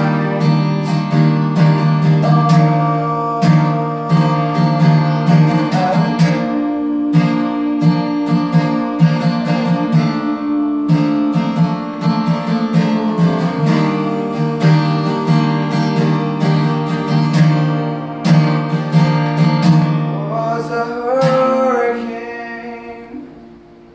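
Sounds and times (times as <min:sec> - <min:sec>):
man singing: 0:00.0 - 0:17.7, 0:19.8 - 0:23.7
acoustic guitar strumming: 0:00.0 - 0:23.9.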